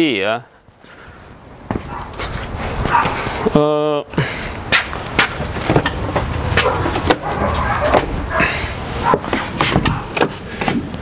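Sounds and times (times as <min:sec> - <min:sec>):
steady outdoor rumble: 0:00.0 - 0:11.0
footsteps: 0:00.7 - 0:03.5, 0:04.6 - 0:11.0.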